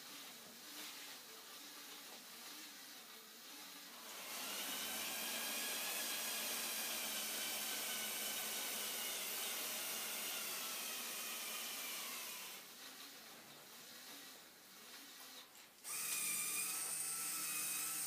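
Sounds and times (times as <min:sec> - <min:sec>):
toy electric motors whirring: 0:00.0 - 0:18.0.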